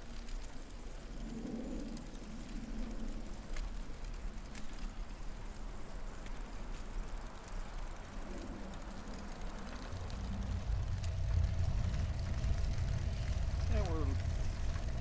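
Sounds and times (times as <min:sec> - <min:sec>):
trike rolling on pavement: 0:00.0 - 0:15.0.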